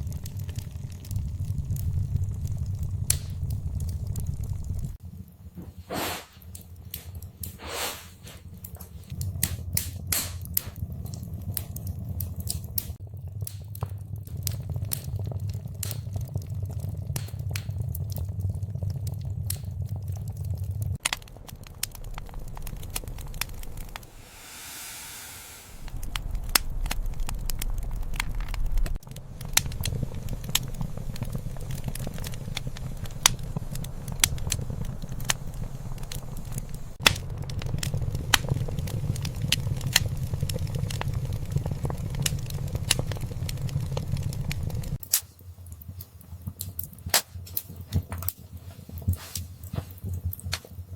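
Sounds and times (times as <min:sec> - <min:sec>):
low rumble of flames: 0:00.0 - 0:50.9
wood fire crackling: 0:00.0 - 0:50.9.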